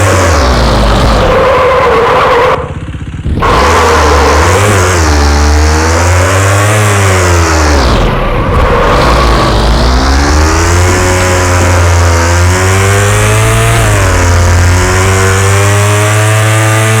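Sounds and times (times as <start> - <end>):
motorcycle engine revving hard: 0.0 - 17.0.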